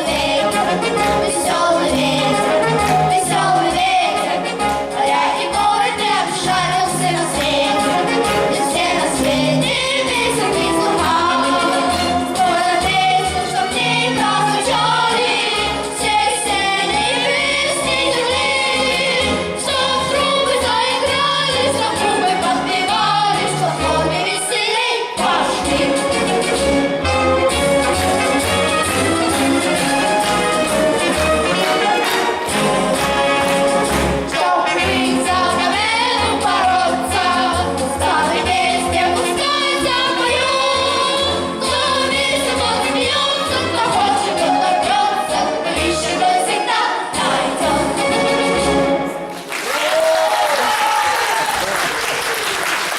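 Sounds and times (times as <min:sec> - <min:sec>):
choir singing: 0:00.0 - 0:49.4
instrumental accompaniment: 0:00.0 - 0:49.5.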